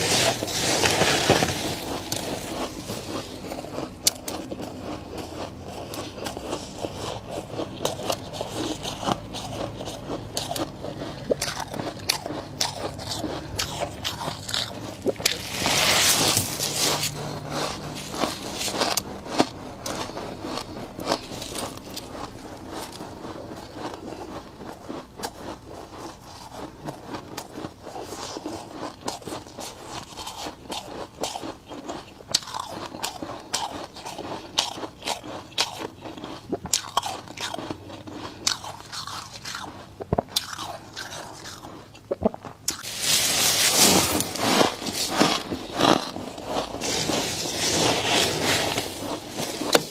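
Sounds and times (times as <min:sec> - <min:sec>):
frost crunching and crackling: 0:00.0 - 0:49.9.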